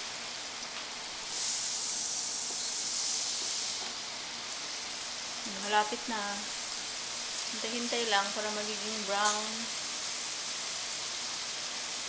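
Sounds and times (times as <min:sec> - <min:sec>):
fries sizzling in deep fryer: 0:00.0 - 0:12.0.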